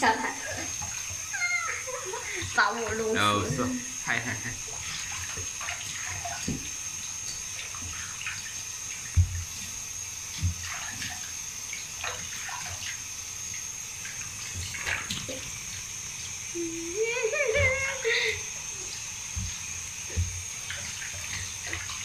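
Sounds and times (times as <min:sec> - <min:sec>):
tap water running into basin: 0:00.0 - 0:22.0.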